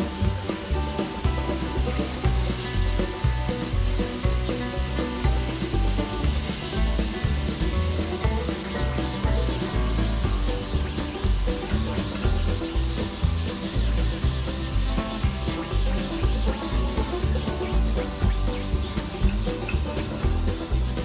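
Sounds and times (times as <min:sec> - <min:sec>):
background music with bass line: 0:00.0 - 0:21.0.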